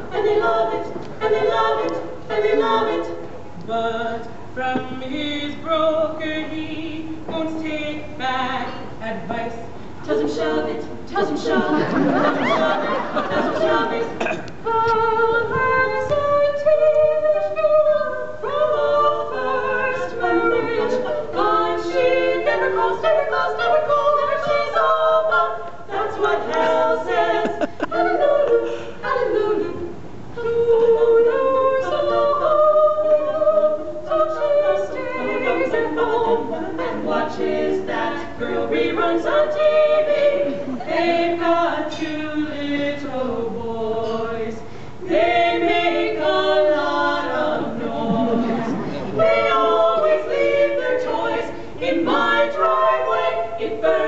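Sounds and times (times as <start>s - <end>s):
women singing a cappella: 0.0s - 54.0s.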